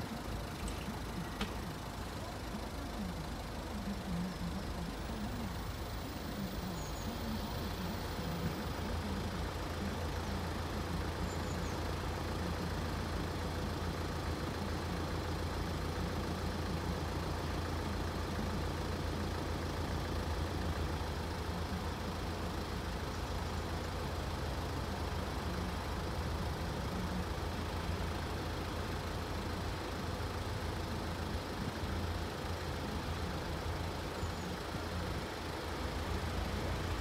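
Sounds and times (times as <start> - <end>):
van engine idling: 0.0 - 37.0.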